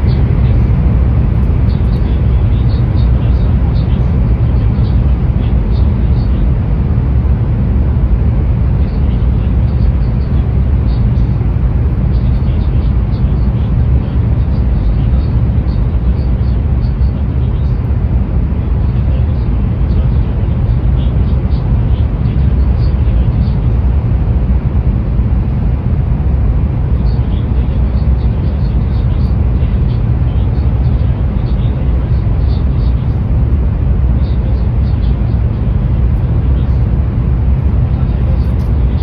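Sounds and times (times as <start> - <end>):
train low rumble: 0.0 - 39.0.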